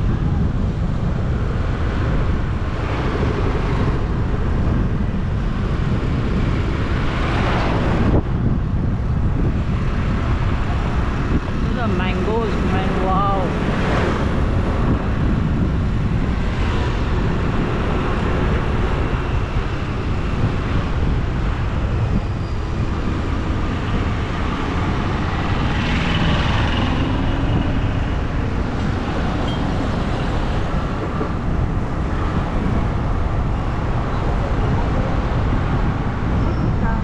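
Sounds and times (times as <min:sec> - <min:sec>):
road noise: 0:00.0 - 0:37.0
wind rumble on microphone: 0:00.0 - 0:37.0.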